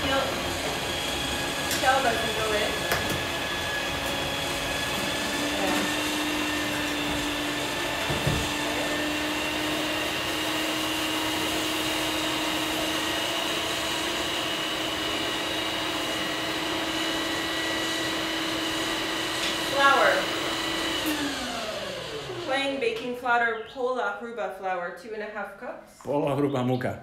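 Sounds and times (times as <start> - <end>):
stand mixer motor humming: 0.0 - 22.6.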